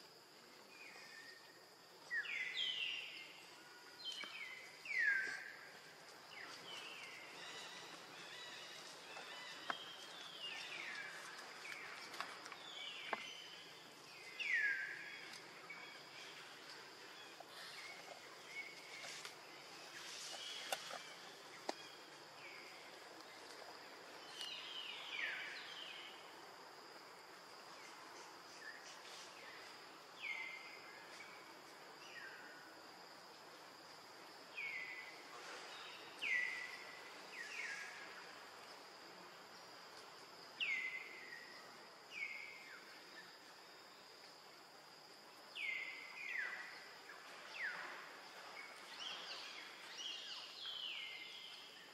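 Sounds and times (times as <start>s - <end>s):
high insect drone: 0.0s - 51.9s.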